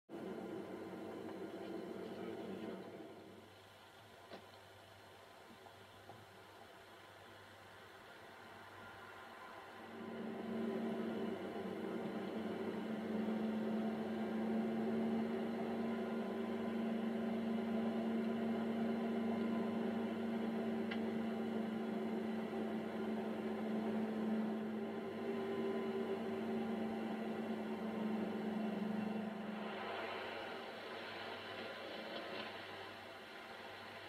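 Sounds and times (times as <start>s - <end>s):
steady low hum: 0.1s - 34.0s.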